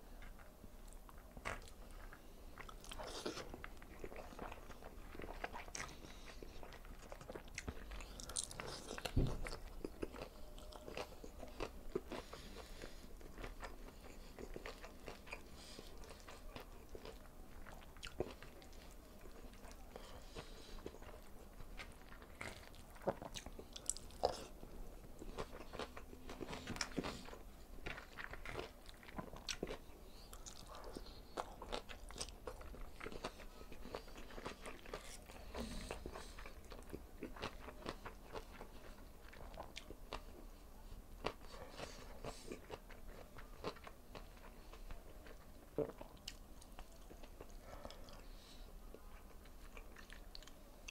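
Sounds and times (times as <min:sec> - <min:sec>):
close chewing and biting: 0:00.2 - 0:50.9.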